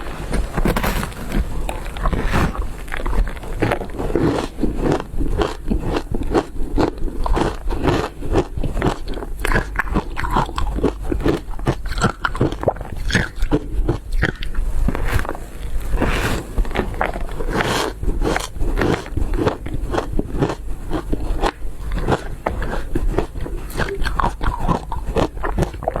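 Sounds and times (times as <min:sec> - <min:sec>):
person crunching shaved ice: 0:00.0 - 0:26.0.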